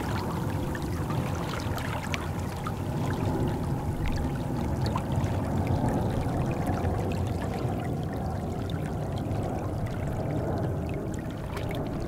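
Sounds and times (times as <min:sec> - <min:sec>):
small water splashes: 0:00.0 - 0:12.0.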